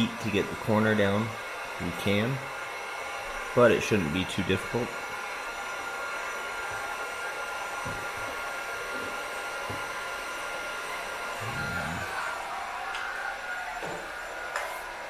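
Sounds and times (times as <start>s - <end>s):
heat gun blowing: 0.0s - 15.0s.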